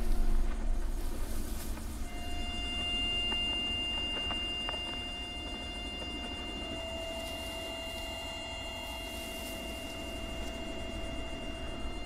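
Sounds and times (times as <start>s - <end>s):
faint ticks: 0.0s - 12.0s
low steady rumble: 0.0s - 12.0s
thin high held tone: 2.0s - 12.0s.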